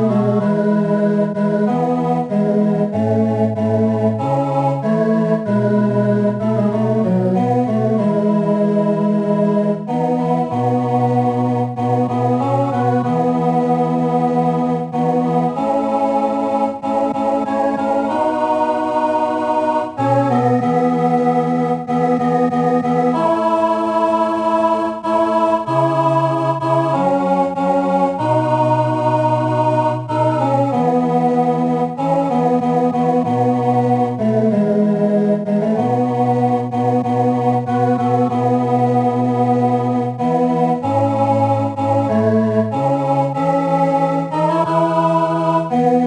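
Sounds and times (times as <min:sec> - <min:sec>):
electronic organ hymn chords: 0:00.0 - 0:46.0.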